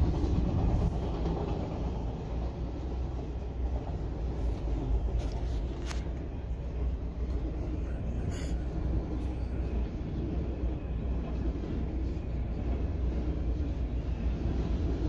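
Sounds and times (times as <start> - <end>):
freight train rumbling by: 0.0 - 15.0.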